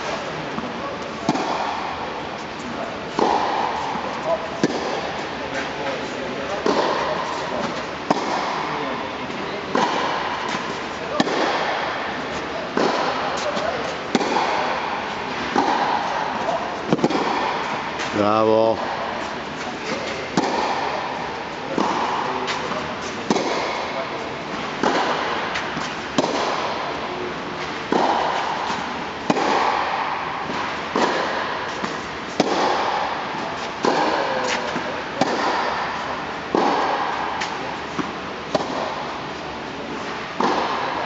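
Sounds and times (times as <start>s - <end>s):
rackets hitting tennis ball: 0.0s - 41.0s.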